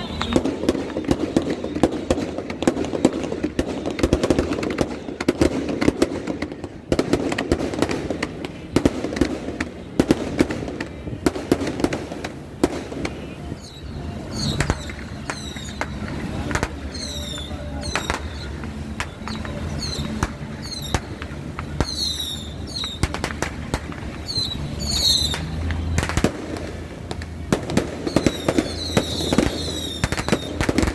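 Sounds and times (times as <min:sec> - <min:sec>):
firecrackers crackling: 0:00.0 - 0:30.9.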